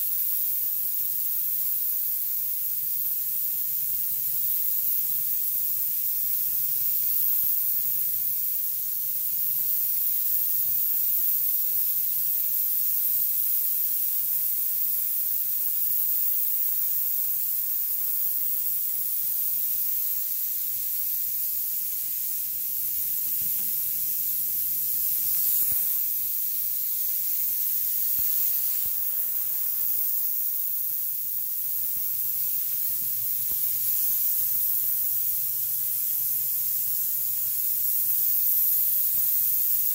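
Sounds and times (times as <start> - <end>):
fogger spraying mist hiss: 0.0 - 39.9.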